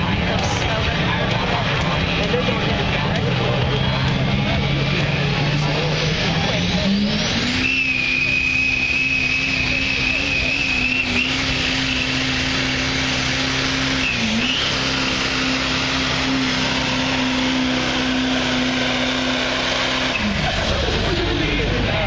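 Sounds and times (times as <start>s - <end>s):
diesel truck engine at high revs: 0.0s - 22.0s
high steady whine: 0.0s - 22.0s.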